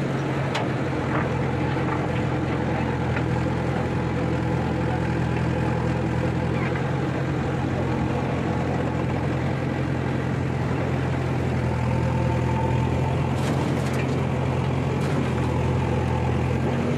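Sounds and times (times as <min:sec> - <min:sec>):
diesel engine running under load: 0:00.0 - 0:16.9.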